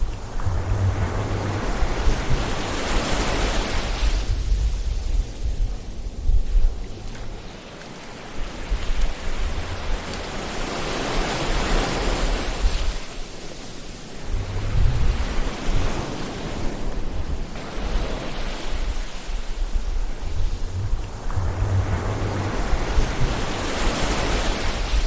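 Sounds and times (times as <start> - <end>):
ocean waves on shore: 0.0 - 25.0.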